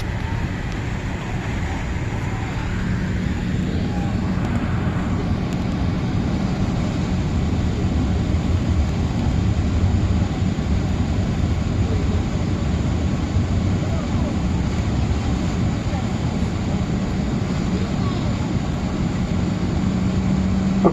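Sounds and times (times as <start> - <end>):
jet engines rumbling: 0.0 - 20.9.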